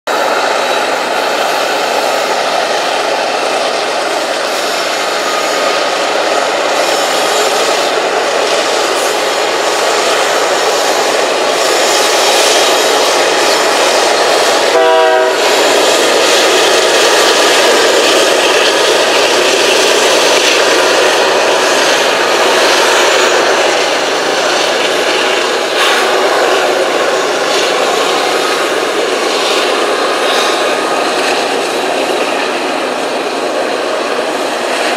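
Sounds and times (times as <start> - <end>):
freight train rumbling past: 0.1 - 34.9.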